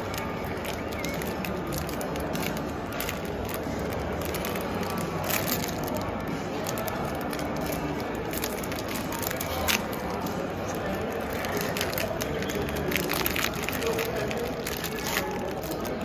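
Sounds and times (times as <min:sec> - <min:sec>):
foil wrapper crinkling: 0:00.0 - 0:16.0.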